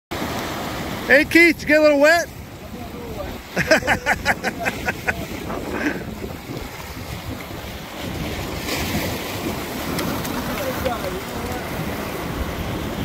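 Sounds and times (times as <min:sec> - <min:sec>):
waves washing against rocks: 0:00.1 - 0:13.0
wind buffeting microphone: 0:00.2 - 0:13.0.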